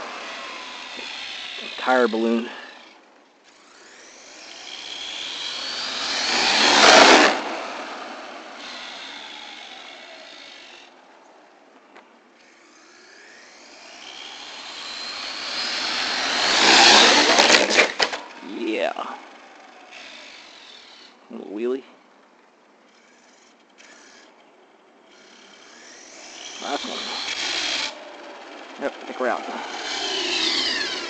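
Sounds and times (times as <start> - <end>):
rc truck motor whine: 0.0 - 21.2, 22.8 - 31.0.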